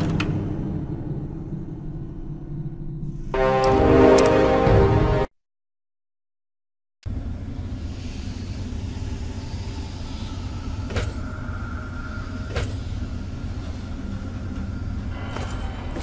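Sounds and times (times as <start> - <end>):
low rumbling drone: 0.0 - 5.3, 7.0 - 16.0.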